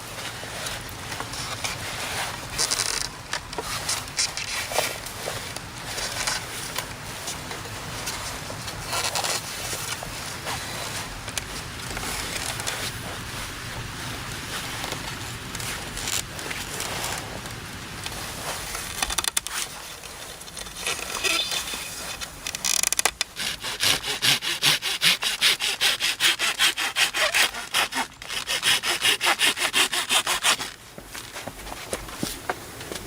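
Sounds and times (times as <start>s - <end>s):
hand saw cutting wood: 0.0s - 17.6s, 20.6s - 30.8s
loose scraping: 0.0s - 33.0s.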